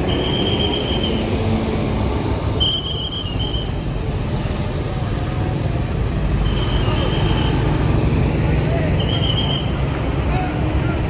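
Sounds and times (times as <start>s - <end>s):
bus engines idling: 0.0s - 11.0s
traffic rumble: 0.0s - 11.0s.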